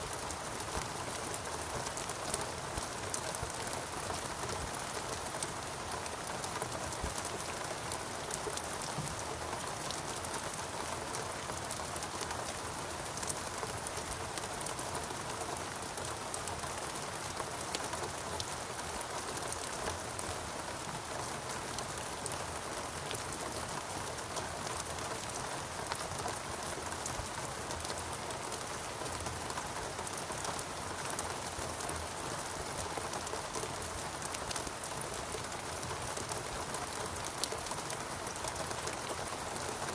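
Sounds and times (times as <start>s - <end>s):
rain dripping on leaves: 0.0s - 39.9s.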